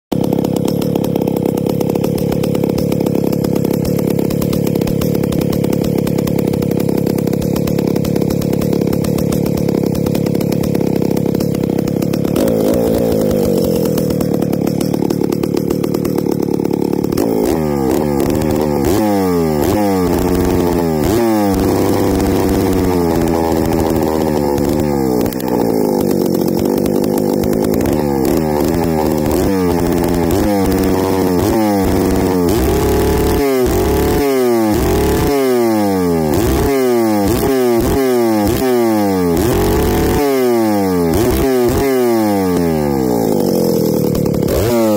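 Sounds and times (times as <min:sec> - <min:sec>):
chainsaw engine revving: 0:00.1 - 0:44.9.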